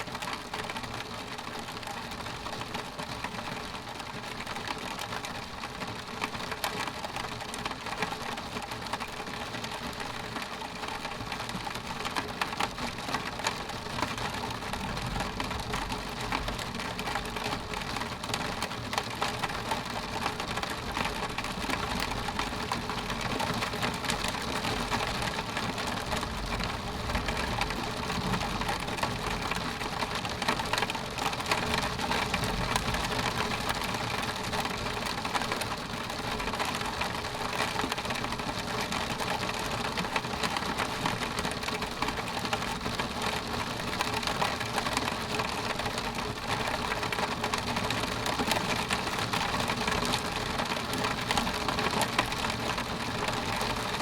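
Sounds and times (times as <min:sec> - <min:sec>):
rain on window glass: 0:00.0 - 0:54.0.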